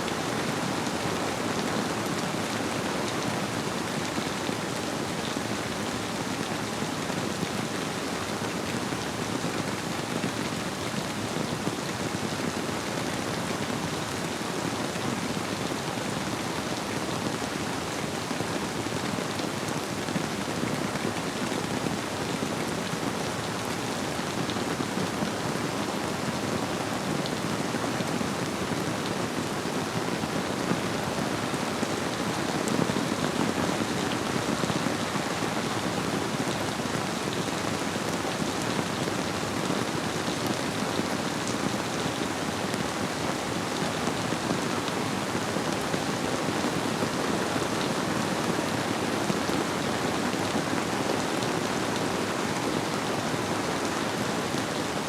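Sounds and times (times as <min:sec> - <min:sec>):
rain patter: 0:00.0 - 0:55.0.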